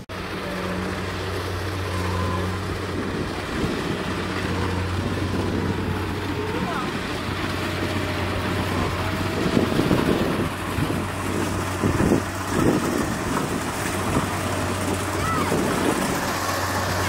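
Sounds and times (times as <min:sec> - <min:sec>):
combine harvester engine drone: 0:00.0 - 0:17.0
low rumbles: 0:00.0 - 0:17.0.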